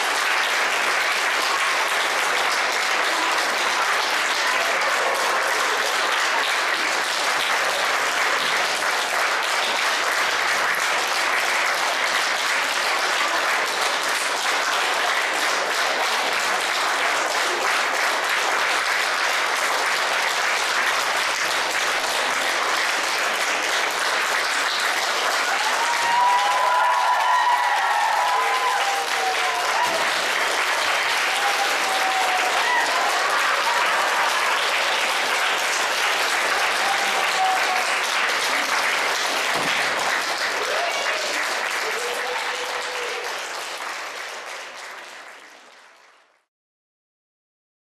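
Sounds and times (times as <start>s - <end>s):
audience applauding: 0.0s - 46.5s.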